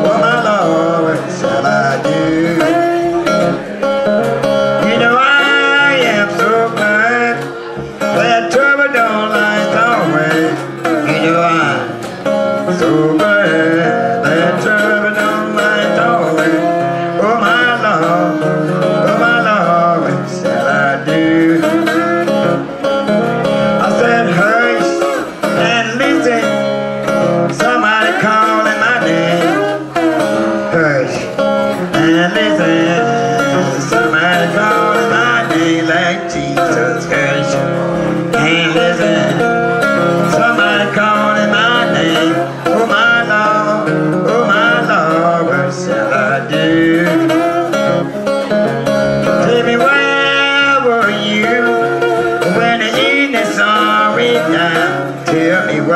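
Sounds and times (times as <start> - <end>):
plucked acoustic guitar: 0.0 - 55.9
woman singing blues: 4.6 - 55.9.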